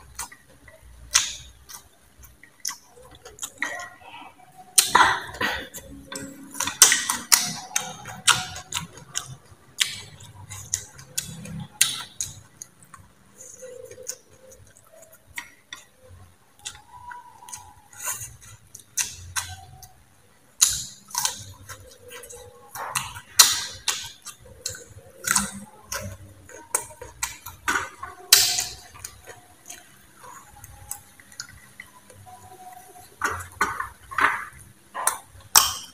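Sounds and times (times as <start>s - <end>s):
chewing and lip-smacking: 0.0s - 35.9s.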